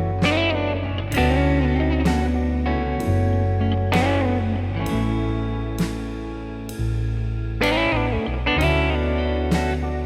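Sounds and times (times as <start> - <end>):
guitar notes: 0.0 - 10.0
steady bass line: 0.0 - 10.0.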